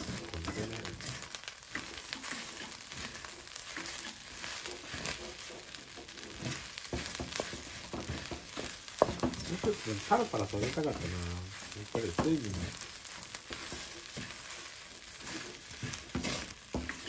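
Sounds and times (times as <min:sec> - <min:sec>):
rice sizzling in a wok: 0:00.0 - 0:17.0
wooden spatula scraping a wok: 0:00.0 - 0:17.0.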